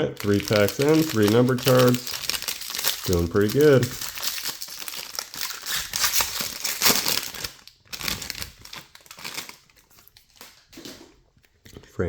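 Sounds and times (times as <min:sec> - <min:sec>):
wrapper tearing and crinkling: 0:00.1 - 0:10.9.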